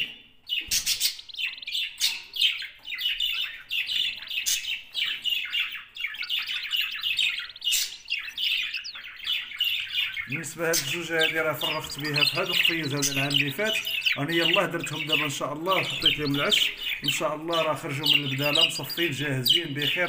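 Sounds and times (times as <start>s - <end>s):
budgerigar chirping: 0.0s - 20.0s.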